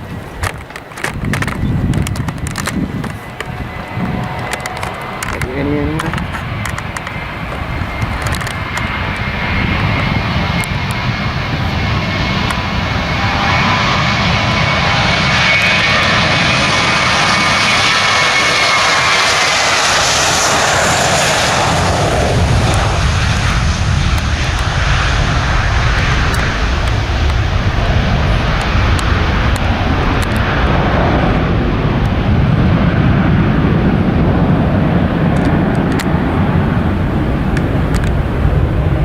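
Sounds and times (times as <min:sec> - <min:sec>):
jet engine roar with fan whine: 0:00.0 - 0:39.0.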